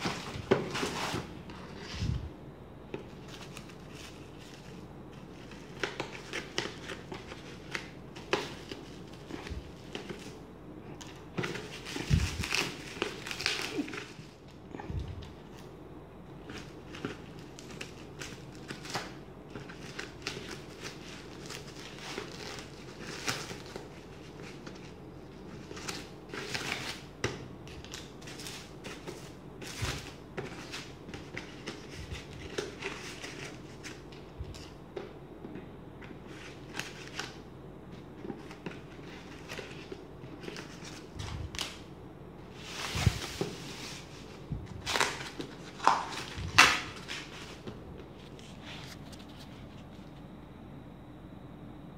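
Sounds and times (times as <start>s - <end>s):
bubble wrap crackling and rustling: 0.0s - 2.3s, 3.0s - 15.7s, 16.4s - 34.8s, 36.2s - 37.5s, 38.1s - 41.9s, 42.5s - 50.0s.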